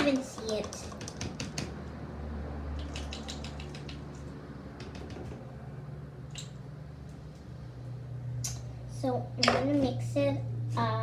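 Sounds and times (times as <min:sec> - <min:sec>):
steady low hum: 0:01.7 - 0:11.0.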